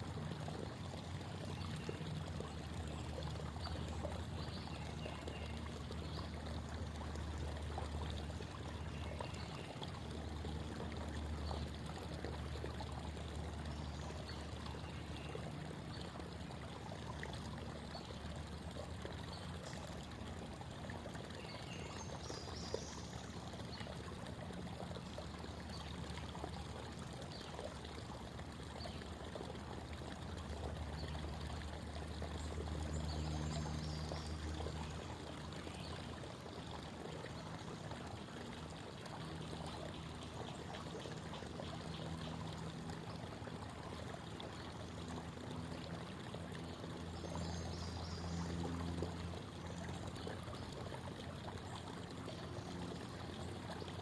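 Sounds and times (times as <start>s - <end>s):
creek water babbling: 0.0s - 54.0s.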